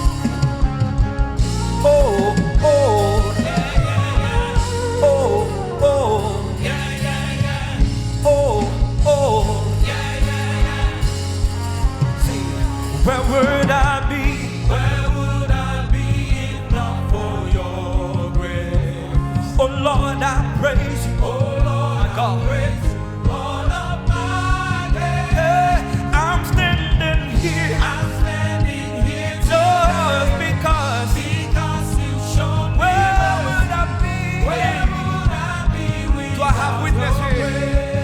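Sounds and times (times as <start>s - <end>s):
live gospel band playing: 0.0s - 38.0s
steady drum beat: 0.0s - 38.0s
person singing wordless vocal runs: 1.6s - 38.0s.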